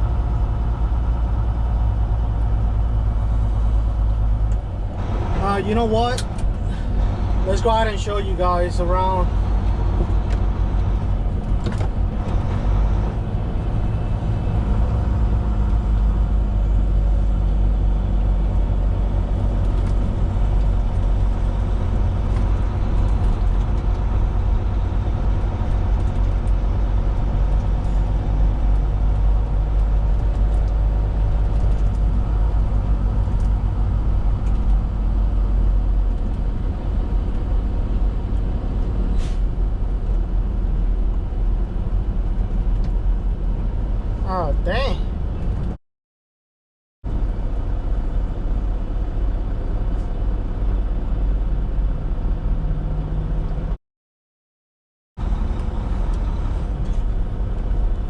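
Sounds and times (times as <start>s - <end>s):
diesel truck engine rumbling: 0.0s - 45.8s, 47.1s - 53.8s, 55.2s - 58.0s.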